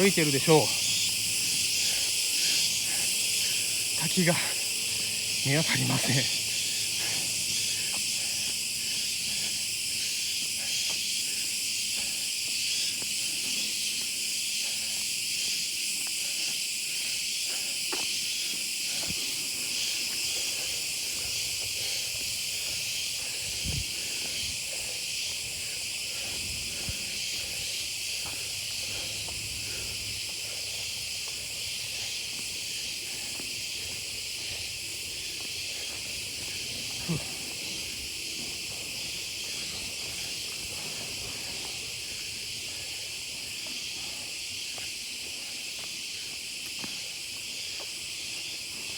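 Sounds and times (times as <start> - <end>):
insects chorus: 0.0 - 48.9.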